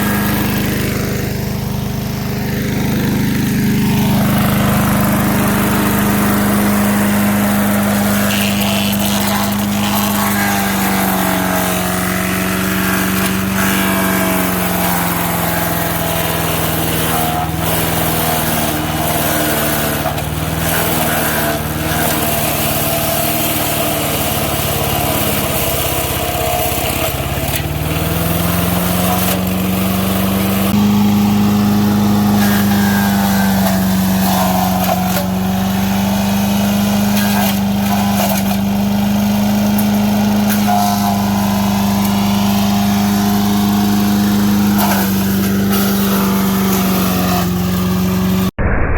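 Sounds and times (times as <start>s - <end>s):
chipper engine bogging: 0.0s - 48.9s
wood cracking in chipper: 2.4s - 48.5s.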